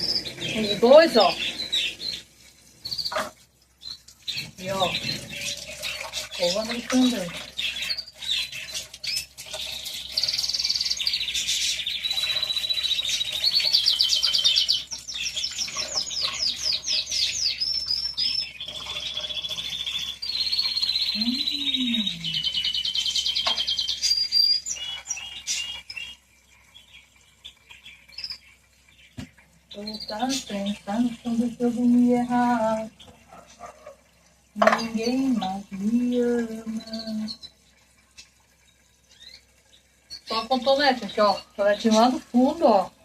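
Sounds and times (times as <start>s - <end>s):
songbirds trilling and chirping: 0.0s - 43.0s.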